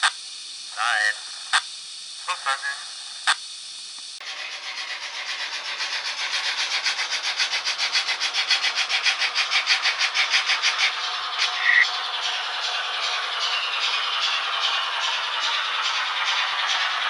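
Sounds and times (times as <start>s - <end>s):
model steam locomotive chuffs: 0.0s - 17.0s.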